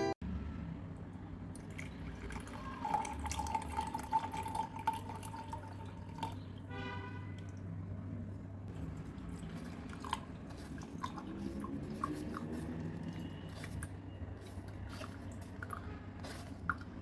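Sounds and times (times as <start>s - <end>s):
liquid trickling into container: 1.5s - 7.8s, 8.7s - 17.0s.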